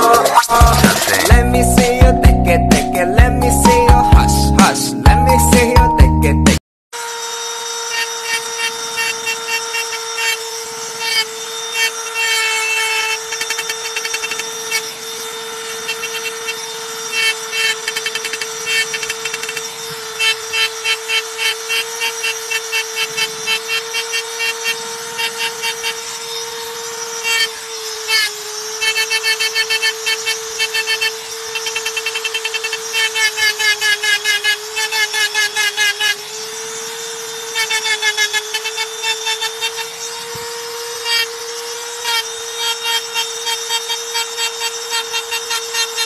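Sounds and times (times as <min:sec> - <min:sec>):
rotary tool motor whine: 0:07.0 - 0:46.0.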